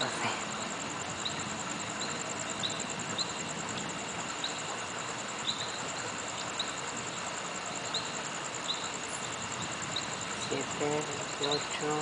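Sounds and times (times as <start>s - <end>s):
high insect trill: 0.0s - 12.0s
short cricket chirps: 0.0s - 12.0s
steady background hiss: 0.0s - 12.0s.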